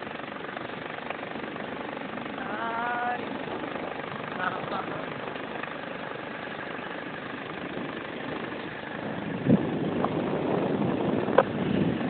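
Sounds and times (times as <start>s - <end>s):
vehicle engine and travel noise: 0.0s - 12.0s.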